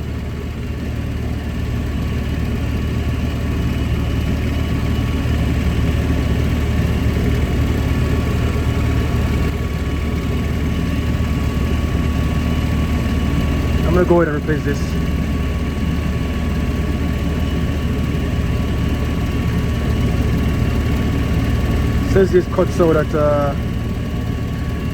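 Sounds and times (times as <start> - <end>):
blower fan air rush: 0.0 - 24.9
gas furnace humming: 0.0 - 24.9.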